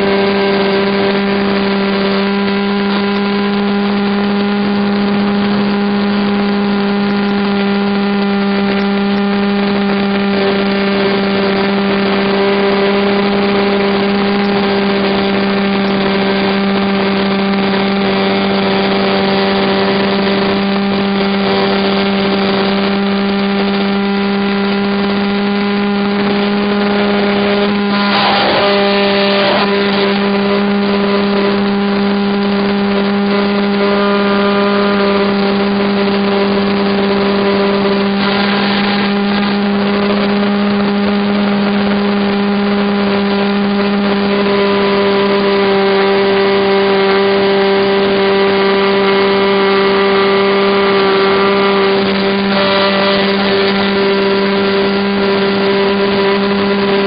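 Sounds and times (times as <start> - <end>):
model airplane motor humming: 0.0 - 57.0.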